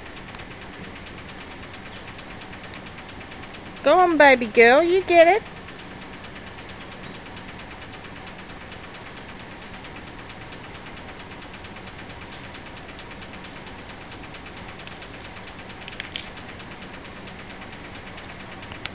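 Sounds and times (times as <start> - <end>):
steady hum and hiss: 0.0 - 18.9.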